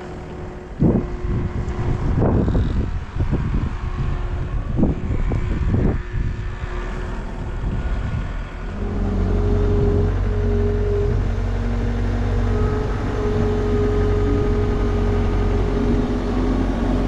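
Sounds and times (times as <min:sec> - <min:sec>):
steady motor hum: 0:00.0 - 0:17.0
wind buffeting microphone: 0:00.0 - 0:17.0.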